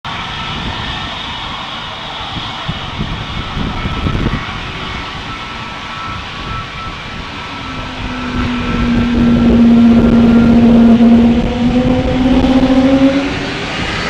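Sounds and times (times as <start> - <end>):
jet engines running: 0.1 - 14.0
wind buffeting microphone: 0.1 - 14.0.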